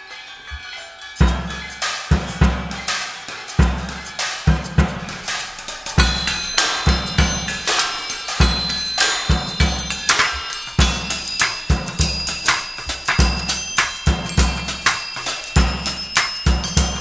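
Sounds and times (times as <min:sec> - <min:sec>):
cymbal: 0:00.0 - 0:17.0
high metallic ringing tones: 0:00.0 - 0:17.0
kick drum beat: 0:01.2 - 0:02.9, 0:03.6 - 0:05.3, 0:06.0 - 0:17.0
snare hits: 0:01.8 - 0:17.0.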